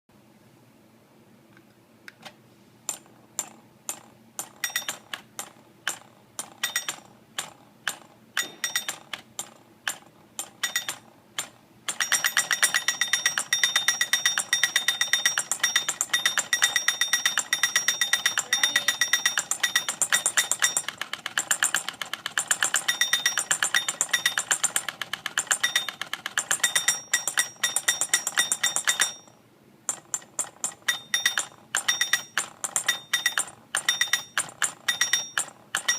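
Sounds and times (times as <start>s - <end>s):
mechanical alarm clock ringing: 4.4s - 5.2s, 5.9s - 7.1s, 7.9s - 35.9s.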